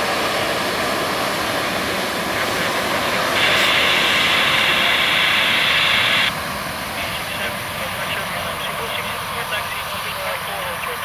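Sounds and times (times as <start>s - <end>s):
high hiss: 0.0s - 11.0s
jet engines rushing: 0.0s - 11.0s.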